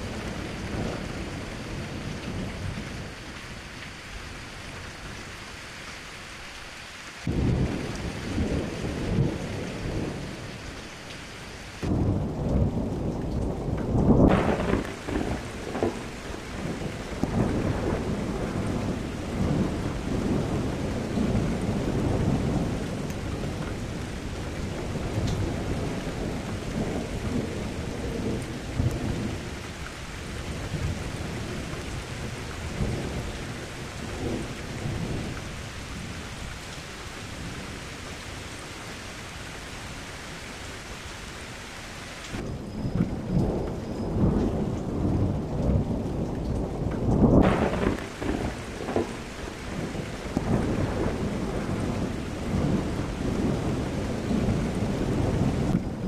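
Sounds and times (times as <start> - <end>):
thunder rumbling: 0.0 - 5.4, 7.2 - 40.8, 42.3 - 56.0
steady rain: 0.0 - 56.0.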